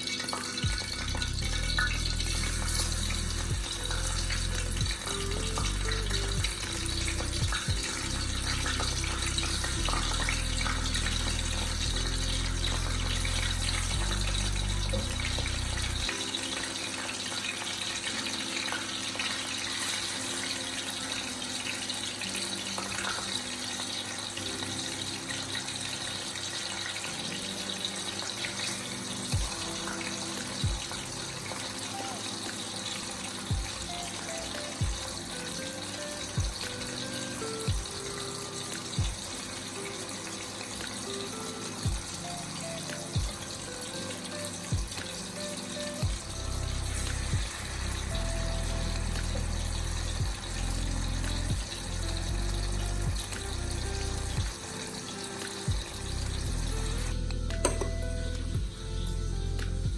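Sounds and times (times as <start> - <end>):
background music: 0.0 - 59.9.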